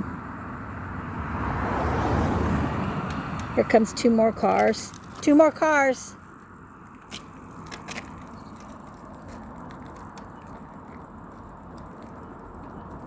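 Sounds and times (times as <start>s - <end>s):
cars passing on a road: 0.0s - 13.0s.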